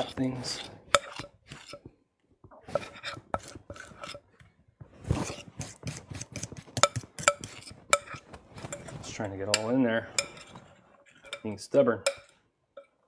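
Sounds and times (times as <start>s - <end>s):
metal utensil scraping a bowl: 0.0s - 1.9s, 2.6s - 4.3s, 5.0s - 13.0s.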